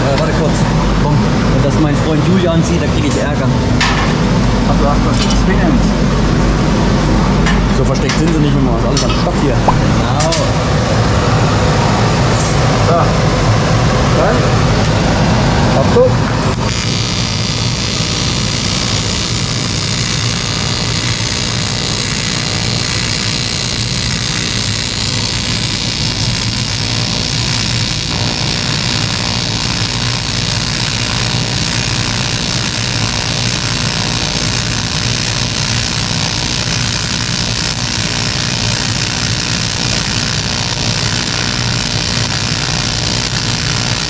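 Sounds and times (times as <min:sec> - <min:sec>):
welding arc buzzing and hissing: 0:00.0 - 0:44.0.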